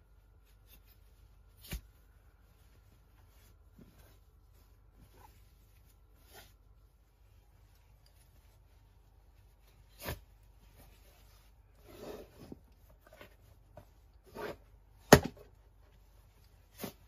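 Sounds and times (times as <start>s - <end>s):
fabric rustling: 0.0s - 17.0s.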